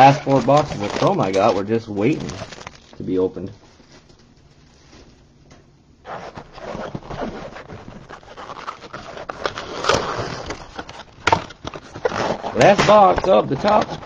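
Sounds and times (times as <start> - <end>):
plastic wrap and cardboard crinkling: 0.0 - 5.3, 6.1 - 14.0.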